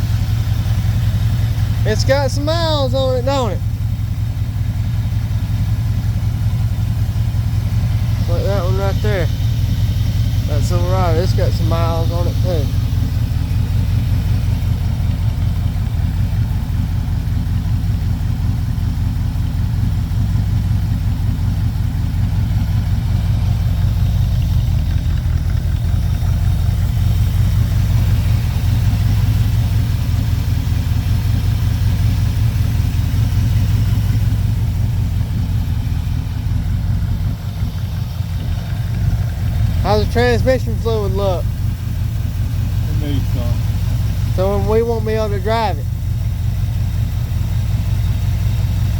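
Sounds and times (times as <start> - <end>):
pickup truck engine idling: 0.0 - 48.9.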